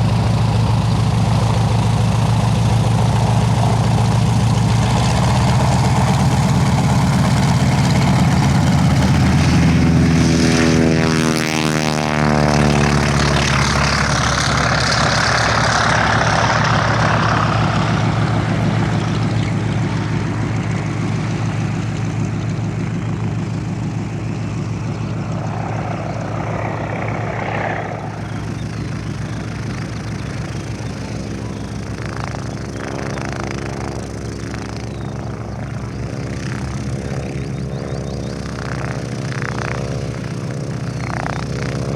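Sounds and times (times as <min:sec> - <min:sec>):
propeller aircraft engine passing: 0:00.0 - 0:41.9.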